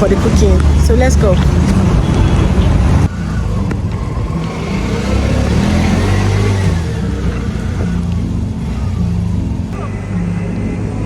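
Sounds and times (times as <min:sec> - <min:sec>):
car engine speeding up: 0:00.0 - 0:11.0.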